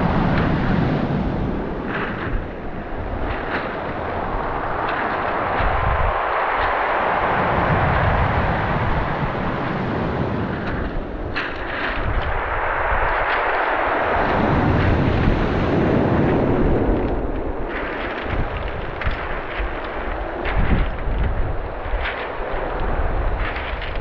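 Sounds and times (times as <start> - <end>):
waves breaking on pebble beach: 0.0 - 24.0.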